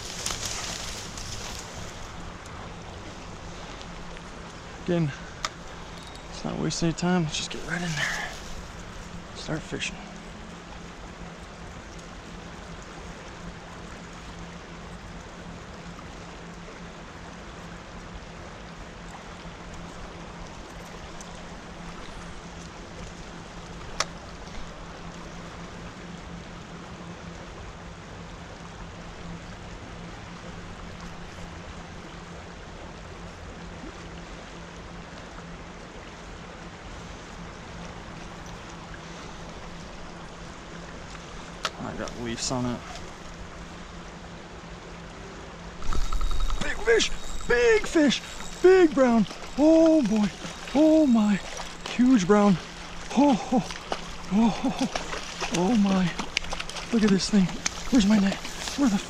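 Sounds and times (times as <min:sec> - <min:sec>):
creek water rushing: 0:00.0 - 0:59.0
steady low hum: 0:00.0 - 0:59.0.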